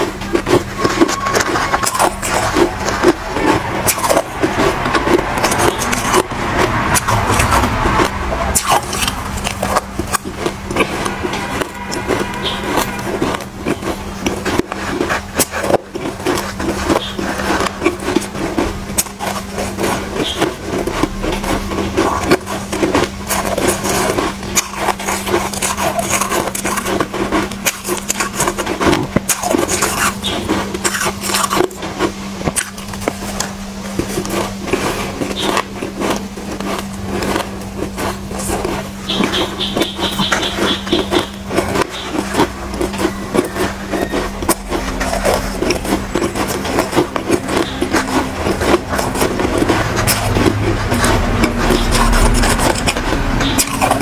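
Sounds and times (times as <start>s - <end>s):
chewing shaved ice: 0.0s - 54.0s
low hum: 0.0s - 54.0s
spoon scraping ice: 0.0s - 54.0s.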